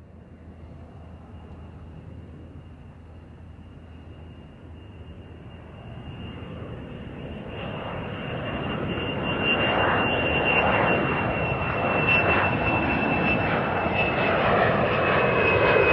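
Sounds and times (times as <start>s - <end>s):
jet engines rushing: 0.4s - 15.9s.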